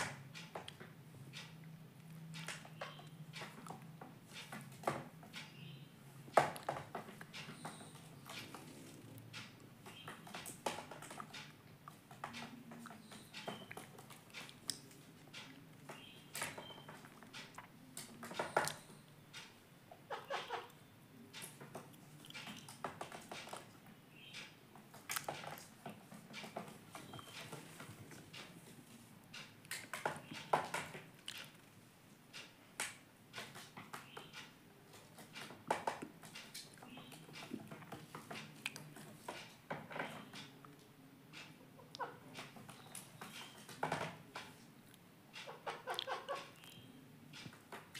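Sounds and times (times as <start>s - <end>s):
bird beak tapping and pecking: 0.0s - 5.7s, 6.3s - 20.7s, 21.4s - 28.7s, 29.3s - 31.6s, 32.4s - 44.6s, 45.3s - 47.9s.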